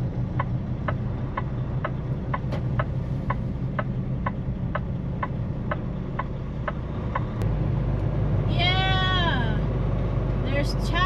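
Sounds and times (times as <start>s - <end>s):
turn signal ticking: 0.0s - 9.2s
truck engine and road drone: 0.0s - 11.0s.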